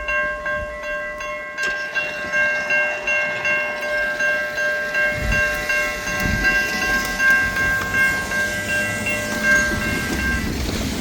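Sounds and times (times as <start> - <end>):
level-crossing bell ringing: 0.0 - 10.8
train rumbling on rails: 0.0 - 11.0.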